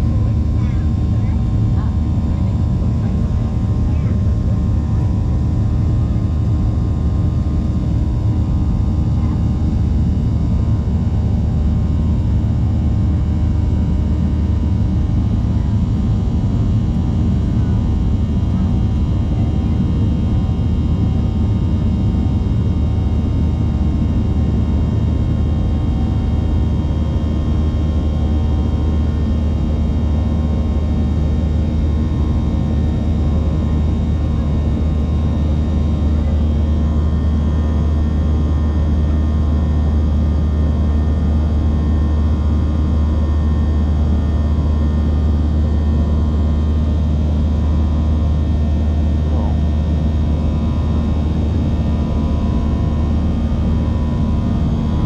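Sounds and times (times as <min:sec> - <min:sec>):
jet cabin engine rumble: 0:00.0 - 0:55.0.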